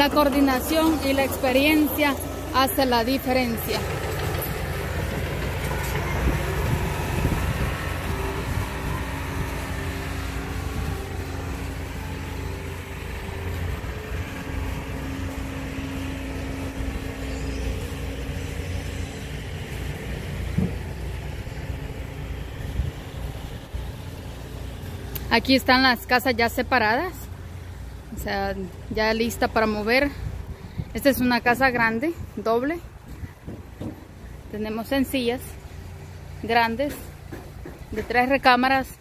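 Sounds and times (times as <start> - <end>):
engine running with low rumble: 0.0 - 39.0.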